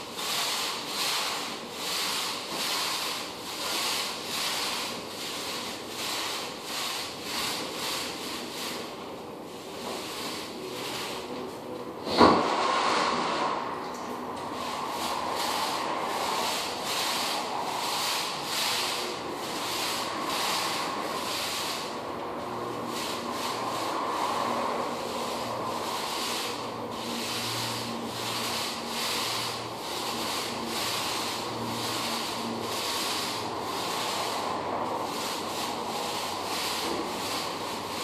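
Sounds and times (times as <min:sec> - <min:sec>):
hand wiping window glass: 0:00.0 - 0:38.0
steady hum: 0:00.0 - 0:38.0.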